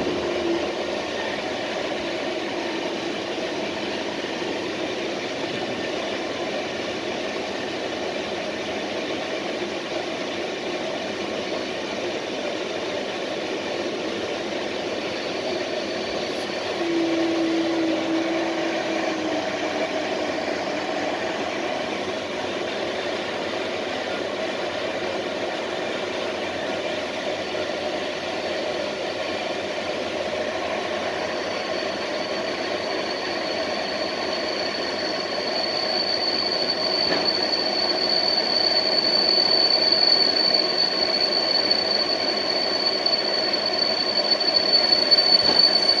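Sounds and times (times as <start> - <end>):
high steady whine: 0.0 - 46.0
train rumble: 0.0 - 46.0.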